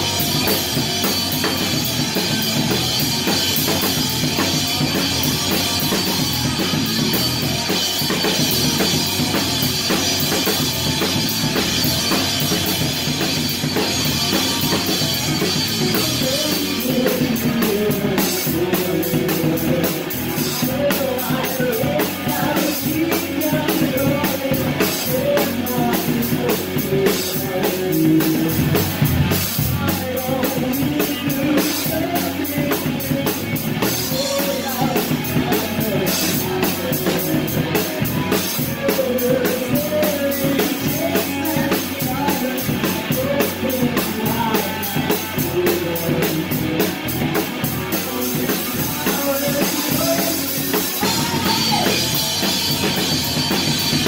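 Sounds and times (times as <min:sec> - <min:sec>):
fast drumming with cymbals: 0:00.0 - 0:54.0
rock band playing: 0:00.0 - 0:54.0.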